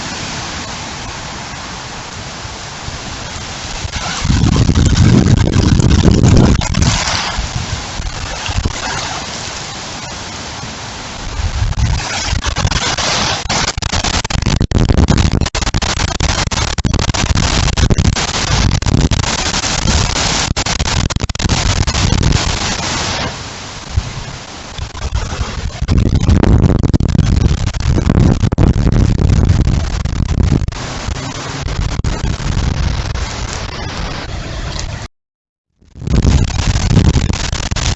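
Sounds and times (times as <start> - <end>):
wind gusts buffeting microphone: 0.0 - 13.0, 13.9 - 35.1, 36.0 - 37.9
rain hiss: 0.0 - 35.1.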